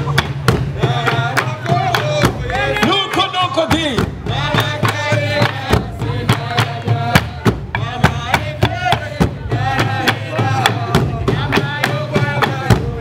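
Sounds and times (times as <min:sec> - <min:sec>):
drums beaten with sticks: 0:00.0 - 0:13.0
voices chanting: 0:00.0 - 0:13.0.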